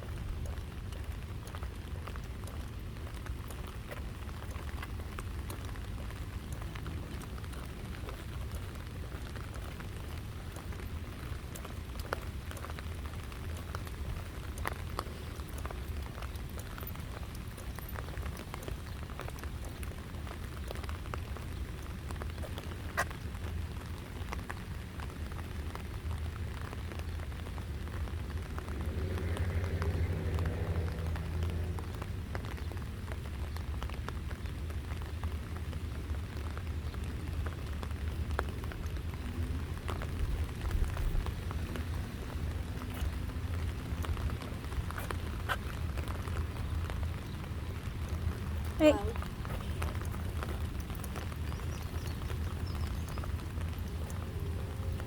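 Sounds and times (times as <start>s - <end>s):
rain falling: 0.0s - 55.0s
raindrops ticking close by: 0.0s - 55.0s.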